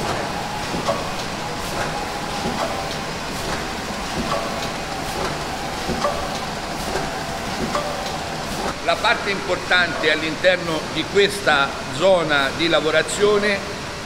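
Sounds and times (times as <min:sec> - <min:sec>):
conveyor clacking: 0:00.0 - 0:14.0
steady machine hum: 0:00.0 - 0:14.0.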